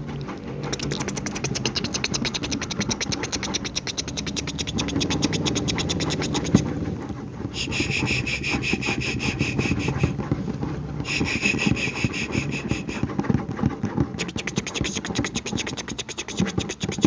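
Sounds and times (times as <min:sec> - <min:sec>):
rapid scratching clicks: 0:00.0 - 0:17.0.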